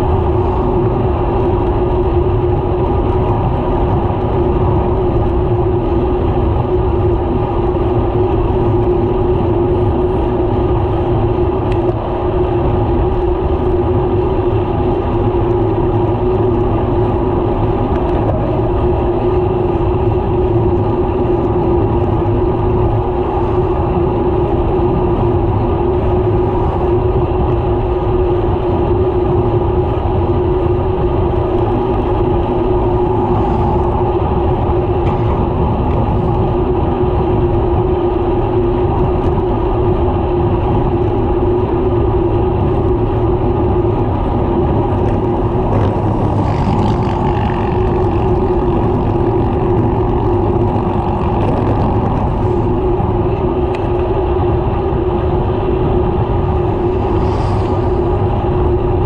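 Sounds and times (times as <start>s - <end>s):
low steady hum: 0.0s - 59.0s
wind rushing on microphone: 0.0s - 59.0s.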